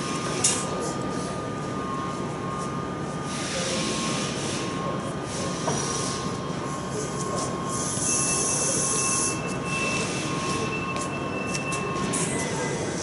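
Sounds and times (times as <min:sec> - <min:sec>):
machinery high whine: 0:00.0 - 0:13.0.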